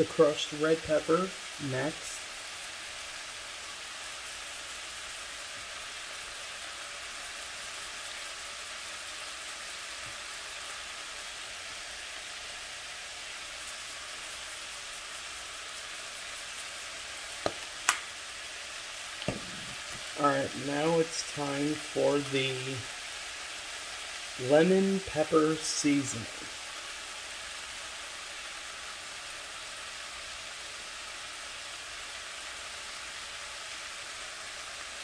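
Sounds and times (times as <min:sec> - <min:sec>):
vegetables sizzling in a skillet: 0:00.0 - 0:35.0.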